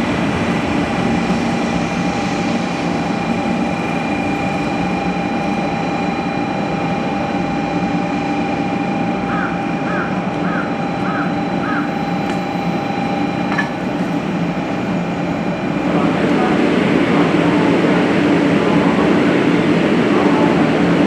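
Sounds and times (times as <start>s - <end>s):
train equipment hum and hiss: 0.0s - 21.0s
whining tones: 0.7s - 17.6s.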